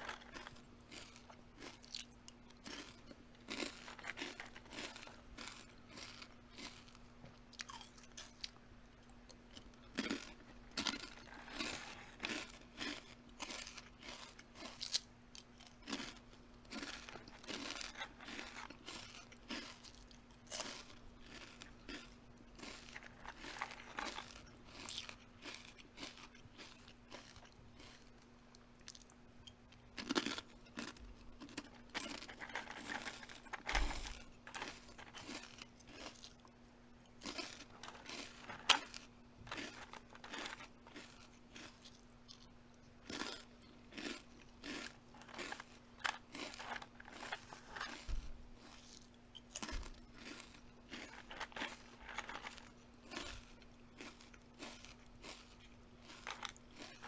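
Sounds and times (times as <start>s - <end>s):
crunchy eating: 0.0s - 57.0s.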